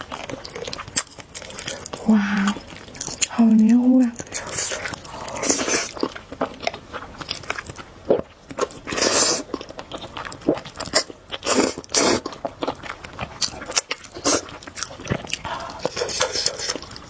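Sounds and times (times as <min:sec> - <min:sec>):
wet chewing of noodles: 0:00.0 - 0:17.0.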